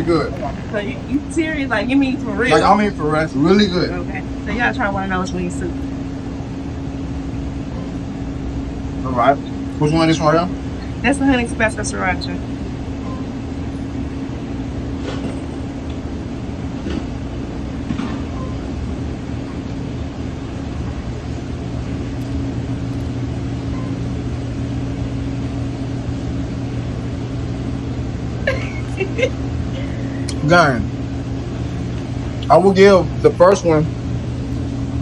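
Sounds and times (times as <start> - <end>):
mechanical hum: 0.0 - 35.0.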